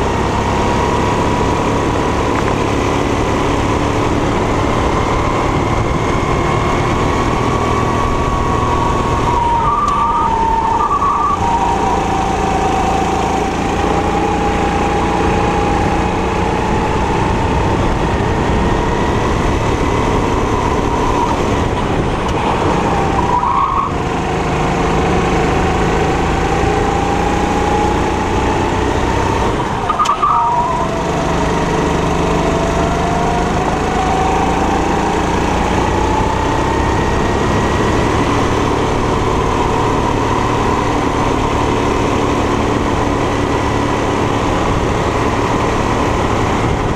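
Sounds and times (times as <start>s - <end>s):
kart engine running hard: 0.0s - 46.9s.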